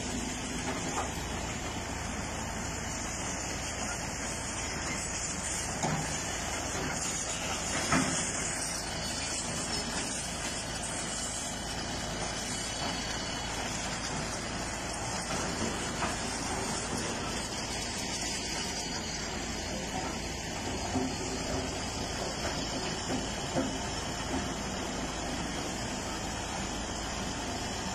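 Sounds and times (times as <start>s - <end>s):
heavy diesel machinery running: 0.0s - 27.9s.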